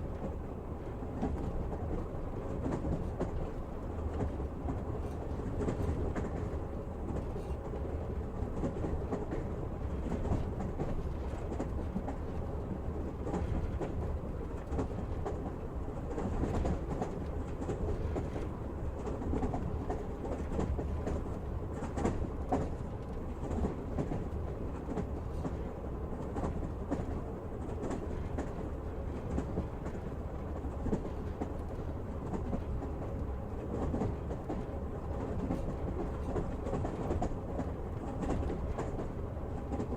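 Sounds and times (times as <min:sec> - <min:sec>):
train interior rumble: 0:00.0 - 0:39.9.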